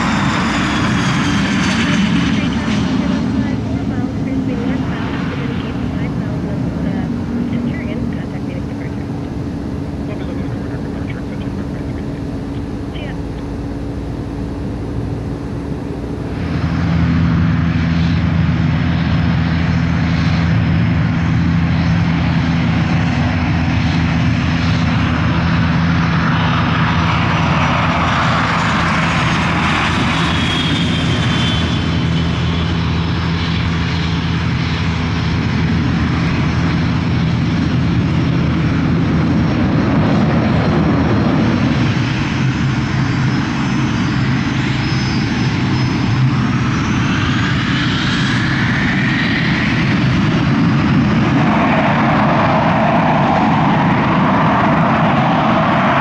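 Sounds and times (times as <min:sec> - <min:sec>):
jet engines humming: 0:00.0 - 0:56.0
jet passing by: 0:00.0 - 0:56.0.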